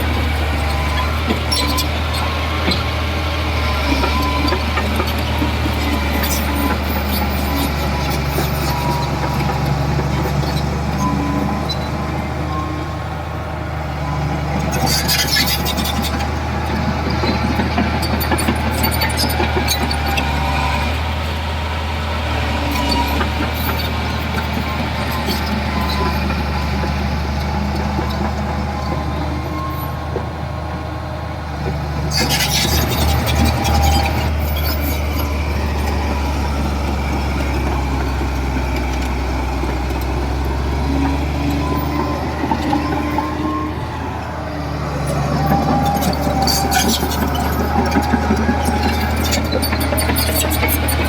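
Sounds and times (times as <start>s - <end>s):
bulldozer diesel engine droning: 0.0s - 51.0s.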